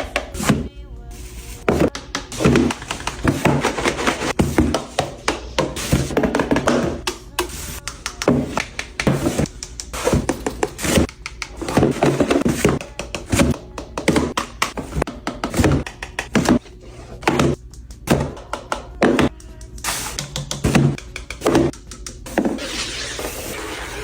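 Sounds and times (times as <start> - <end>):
objects thunking and tapping: 0.0 - 0.7, 1.6 - 22.8.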